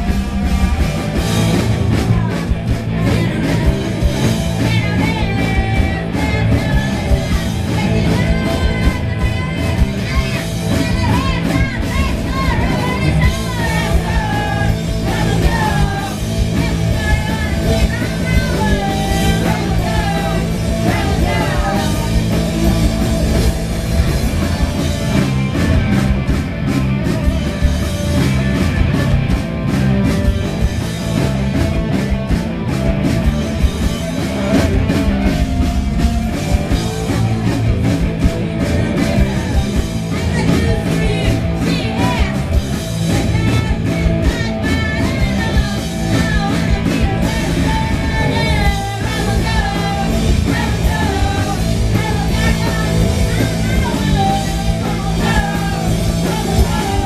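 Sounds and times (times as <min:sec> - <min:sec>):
drum and cymbal hits: 0:00.0 - 0:57.0
rock band playing loud: 0:00.0 - 0:57.0
person singing: 0:00.9 - 0:25.2, 0:34.0 - 0:57.0.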